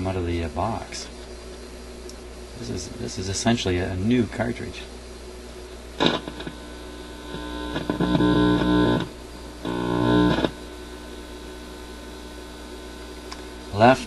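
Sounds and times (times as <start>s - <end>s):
amplifier buzzing through speaker: 0.0s - 14.0s
steady mains hum: 0.0s - 14.0s.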